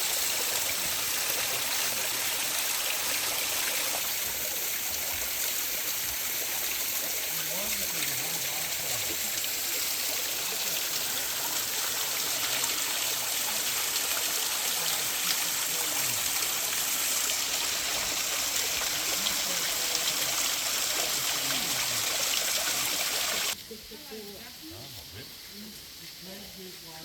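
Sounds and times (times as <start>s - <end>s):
stream water trickling: 0.0s - 23.6s.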